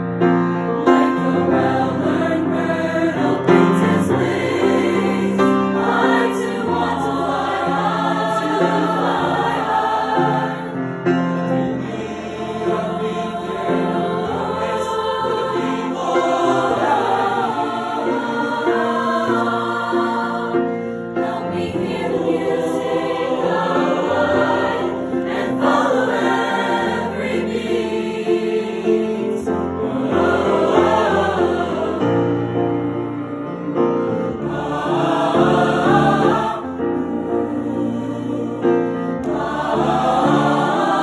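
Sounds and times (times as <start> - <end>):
choir singing: 0.0 - 41.0.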